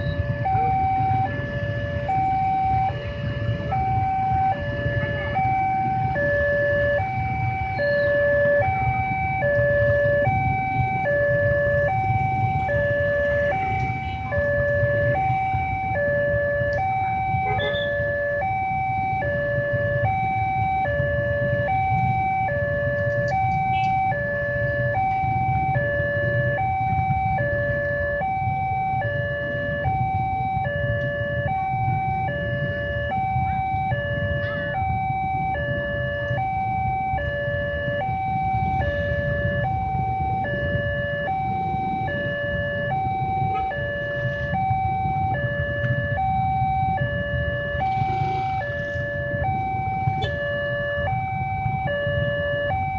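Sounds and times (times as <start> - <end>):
level-crossing two-tone alarm: 0.0 - 52.9.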